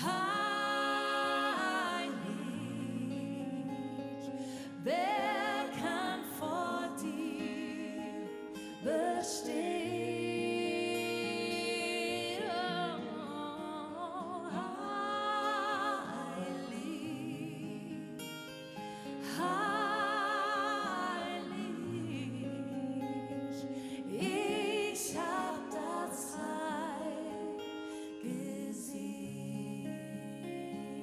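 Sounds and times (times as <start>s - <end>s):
person singing with wavering notes: 0.0s - 31.0s.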